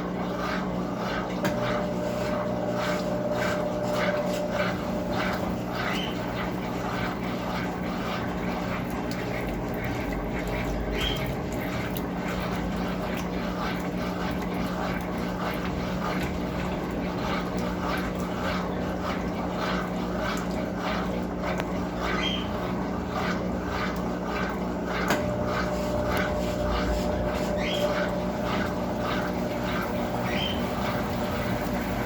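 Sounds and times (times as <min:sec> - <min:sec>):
washing machine motor hum: 0:00.0 - 0:32.0.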